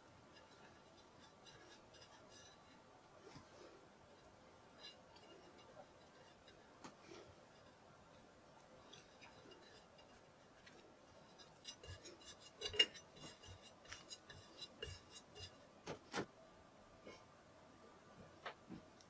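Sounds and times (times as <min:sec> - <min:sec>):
metal spatula scraping and tapping: 0:00.0 - 0:15.7.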